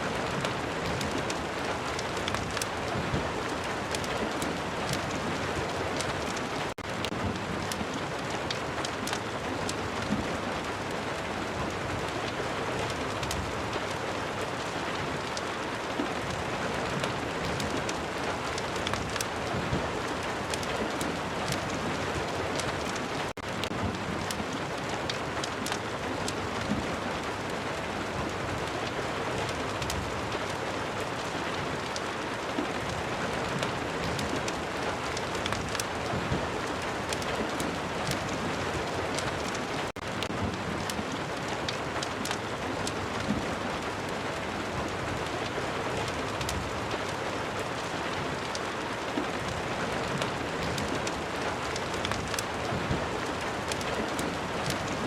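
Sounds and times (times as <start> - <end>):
steady rain: 0.0 - 55.0
wood fire crackling: 0.1 - 55.0.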